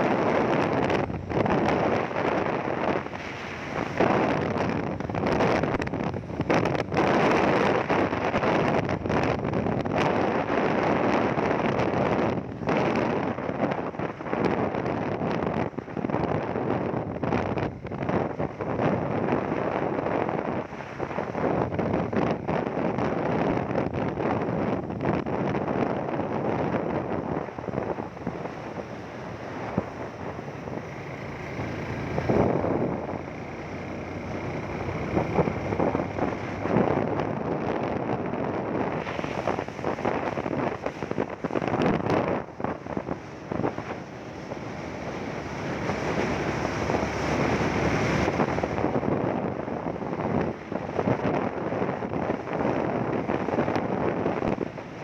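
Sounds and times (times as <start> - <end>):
motorcycle engine and road noise: 0.0 - 55.0
wind buffeting microphone: 0.0 - 55.0.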